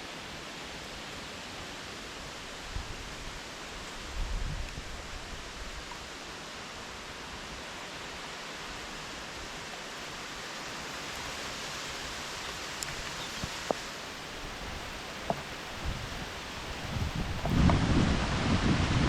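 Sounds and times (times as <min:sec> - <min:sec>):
strong wind through trees: 0:00.0 - 0:19.0.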